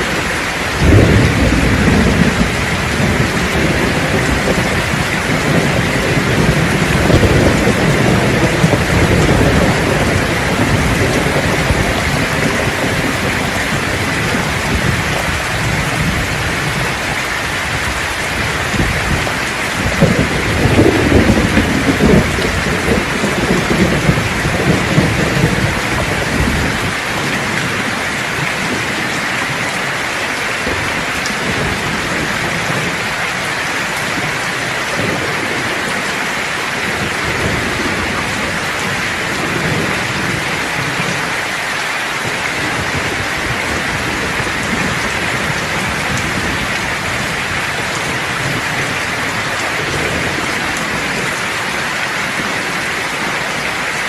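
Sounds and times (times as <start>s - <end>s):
heavy rain hissing: 0.0s - 54.0s
thunder rumbling: 0.0s - 54.0s.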